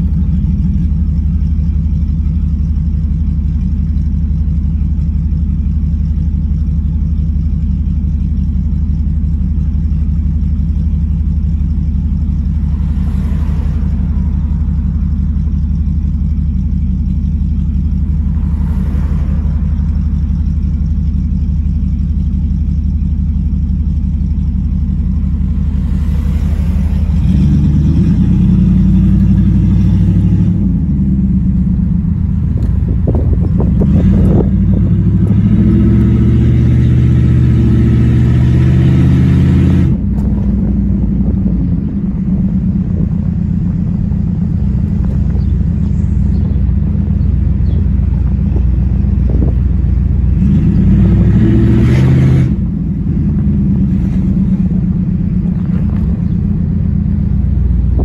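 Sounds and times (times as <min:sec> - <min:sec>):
car engine idling and accelerating: 0:00.0 - 0:58.0.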